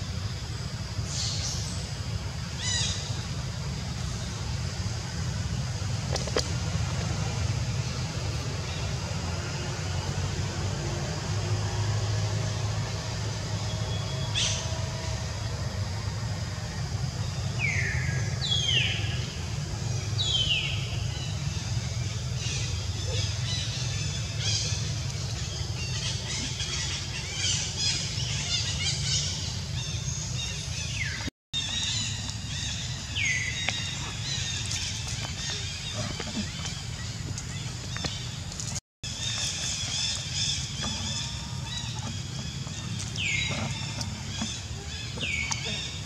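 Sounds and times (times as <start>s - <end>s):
low outdoor hum: 0.0s - 46.0s
birds calling: 0.9s - 46.0s.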